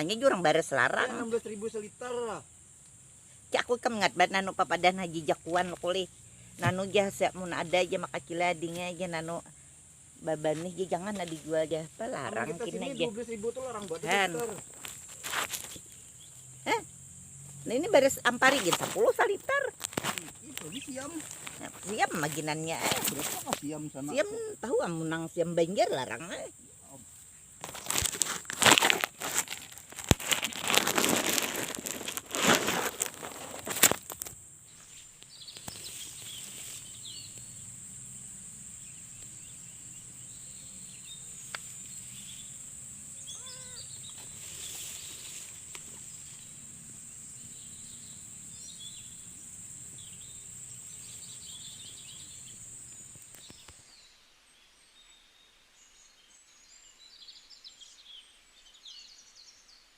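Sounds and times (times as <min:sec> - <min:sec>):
birds chirping: 0:00.0 - 0:28.1, 0:34.7 - 0:59.8.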